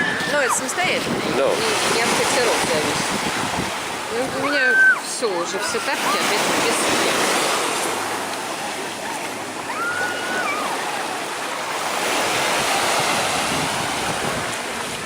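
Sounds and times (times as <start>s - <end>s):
sea surf washing onto beach: 0.0s - 15.0s.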